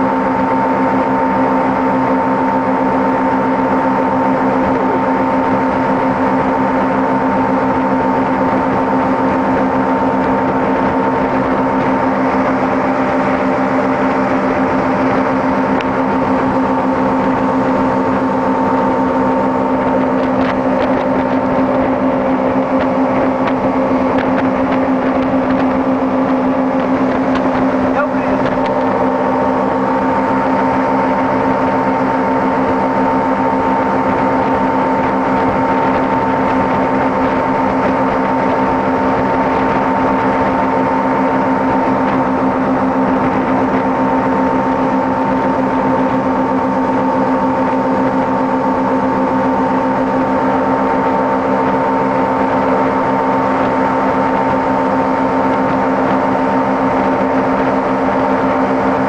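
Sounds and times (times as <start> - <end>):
motorboat engine drone: 0.0 - 59.0
water rushing in wake: 0.0 - 59.0.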